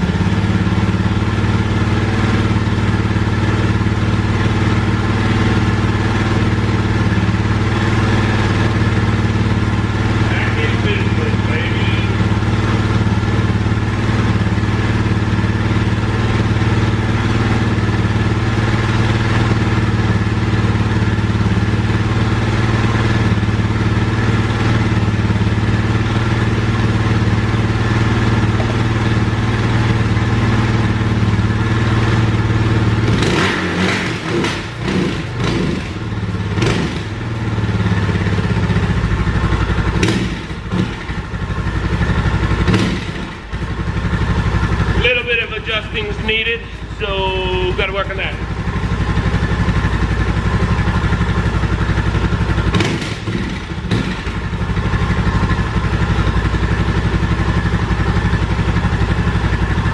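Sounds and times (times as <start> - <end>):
engine knocks and clatter: 0.0 - 59.9
motorcycle engine idling: 0.0 - 59.9.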